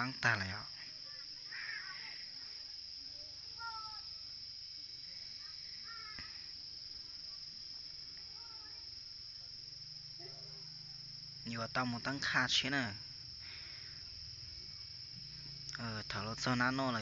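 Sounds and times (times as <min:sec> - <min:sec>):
high-pitched insect chirring: 0:00.0 - 0:17.0.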